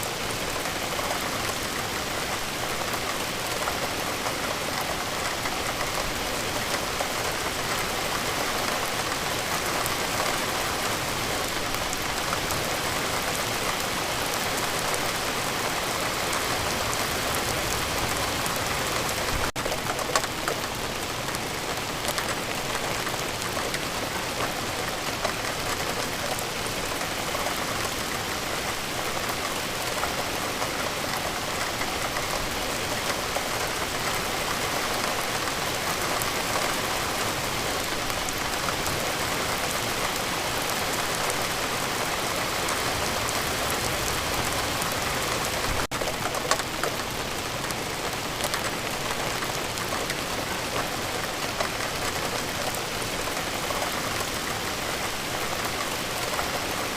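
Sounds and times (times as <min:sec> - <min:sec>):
rain drops on hard surface: 0:00.0 - 0:56.9.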